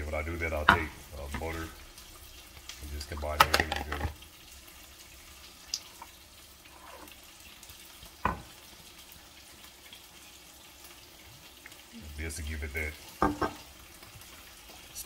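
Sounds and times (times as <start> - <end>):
oil frying hiss: 0.0 - 15.0
sauce pouring into bowl: 0.5 - 14.9.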